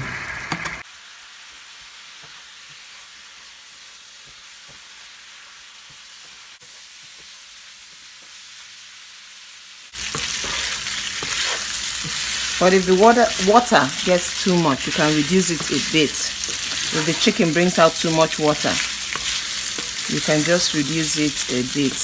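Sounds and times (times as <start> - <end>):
chicken sizzling in a pan: 0.0 - 22.0.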